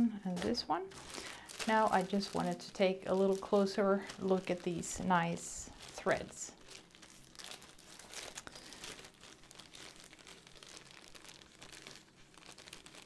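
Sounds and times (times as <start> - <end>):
plastic bag crinkling: 0.3 - 13.0.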